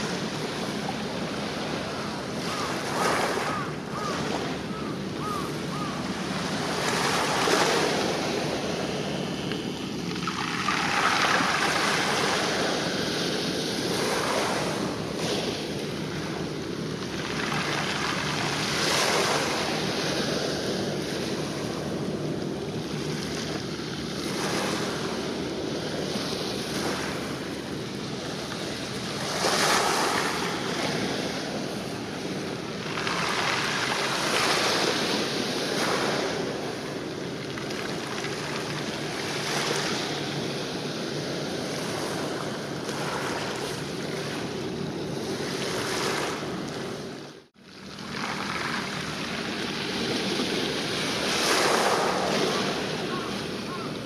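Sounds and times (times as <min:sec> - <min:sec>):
waves washing against rocks: 0:04.8 - 0:47.0, 0:47.9 - 0:54.0.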